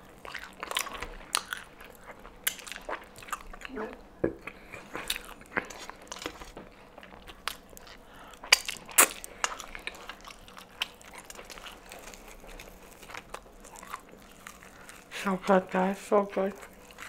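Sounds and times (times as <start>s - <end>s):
chewing: 0.0s - 17.0s
fried chicken crunching: 0.1s - 3.8s, 4.8s - 17.0s.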